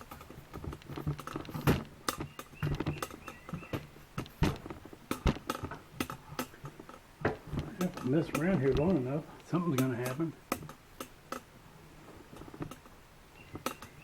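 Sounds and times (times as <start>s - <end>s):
objects clicking and knocking: 0.0s - 11.5s, 12.2s - 14.0s.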